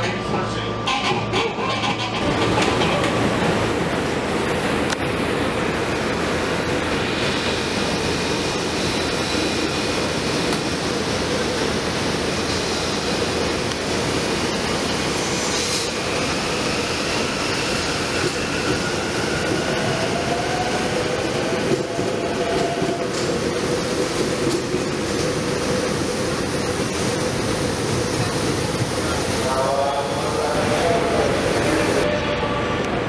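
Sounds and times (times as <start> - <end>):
train wheels rumbling: 0.7 - 33.0.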